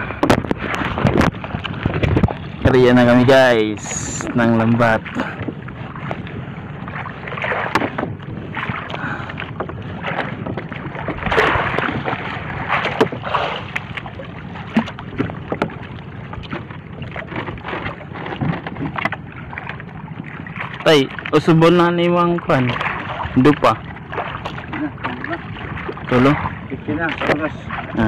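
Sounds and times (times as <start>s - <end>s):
water splashing against boat hull: 0.0s - 28.0s.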